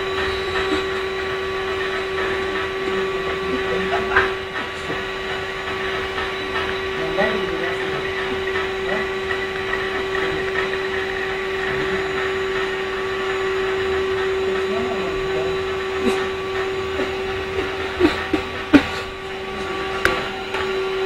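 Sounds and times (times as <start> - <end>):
vacuum cleaner whining: 0.0 - 21.0.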